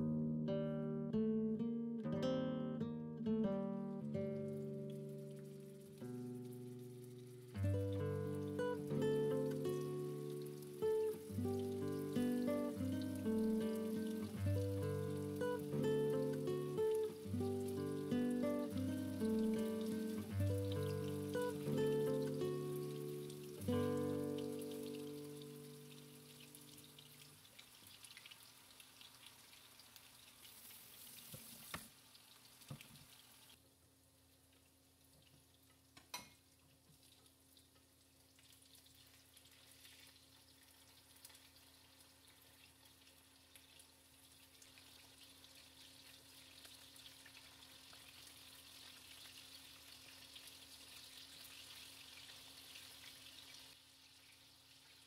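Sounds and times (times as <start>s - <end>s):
cutlets frying in oil: 5.3s - 55.0s.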